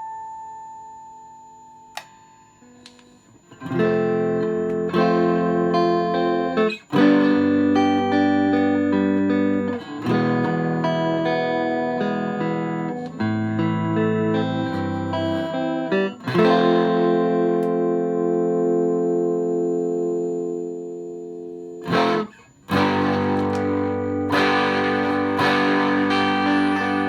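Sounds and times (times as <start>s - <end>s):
electric guitar chords ringing: 0.0s - 27.0s.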